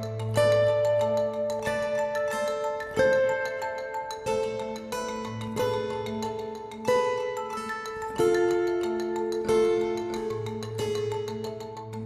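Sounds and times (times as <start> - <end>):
bell-like melody: 0.0 - 12.0.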